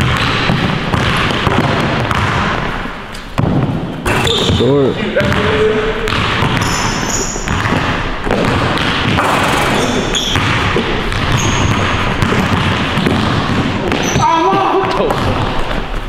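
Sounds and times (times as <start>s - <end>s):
basketball bouncing on hardwood: 0.0s - 2.8s, 5.2s - 16.0s
sneaker squeaks: 3.1s - 16.0s.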